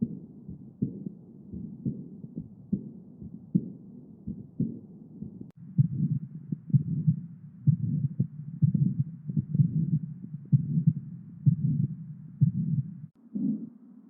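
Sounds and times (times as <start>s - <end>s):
heart murmur: 0.0s - 13.7s
heartbeat: 0.0s - 13.7s.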